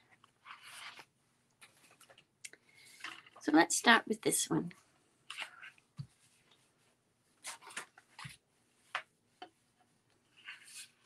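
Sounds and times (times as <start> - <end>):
soft paper rustles: 0.0 - 3.6, 4.7 - 11.0.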